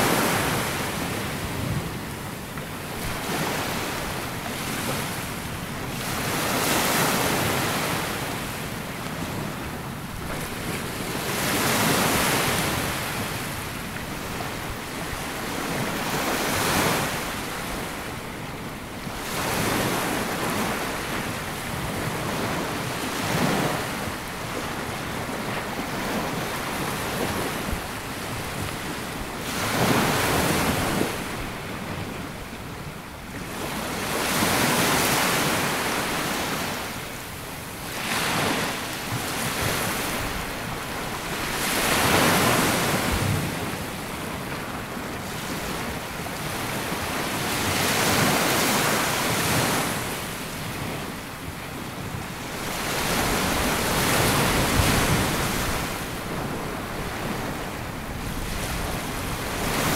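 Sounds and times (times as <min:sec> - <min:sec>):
small waves washing on beach: 0:00.0 - 0:59.9
wind on microphone: 0:00.0 - 0:59.9.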